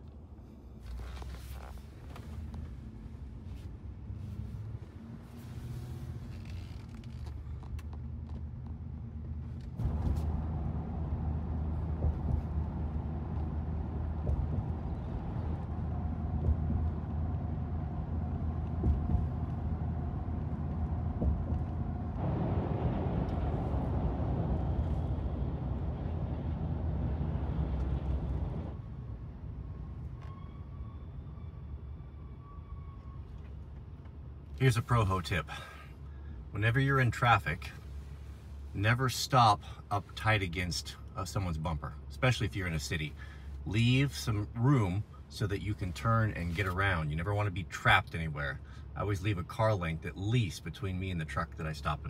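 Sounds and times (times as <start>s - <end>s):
road and engine noise in cab: 0.0s - 52.0s.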